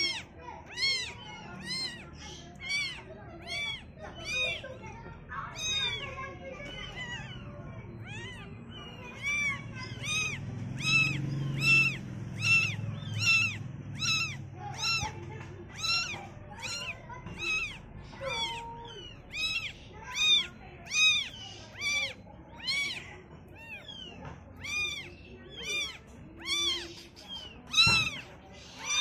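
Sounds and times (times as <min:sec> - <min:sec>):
kitten mewing: 0:00.0 - 0:04.8, 0:05.4 - 0:29.0.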